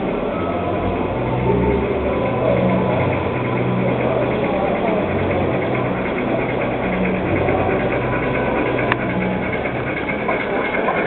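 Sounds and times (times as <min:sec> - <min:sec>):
model trains humming: 0:00.0 - 0:11.0
visitors chattering: 0:00.0 - 0:11.0.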